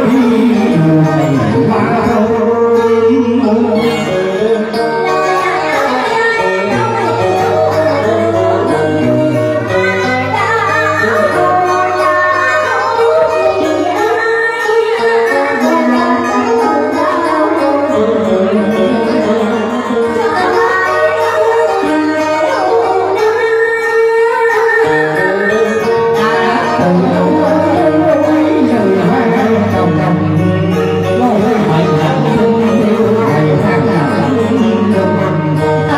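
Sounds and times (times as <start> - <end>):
band with keyboard: 0.0 - 35.9
woman singing into microphone: 0.0 - 35.9.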